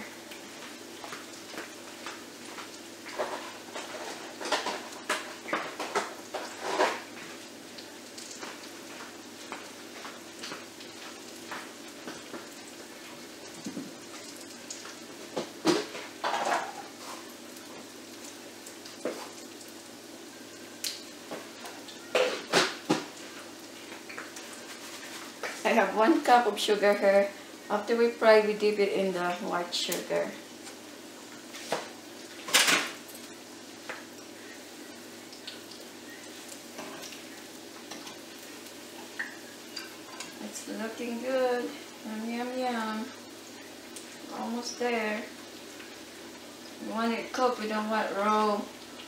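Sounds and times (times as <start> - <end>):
fritters sizzling in oil: 0.0 - 49.0.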